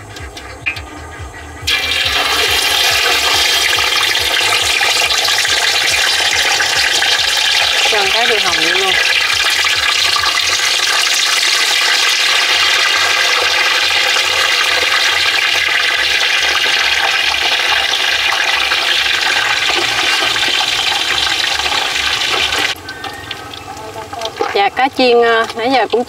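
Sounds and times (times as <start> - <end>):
fish deep-frying in oil: 1.6 - 26.0.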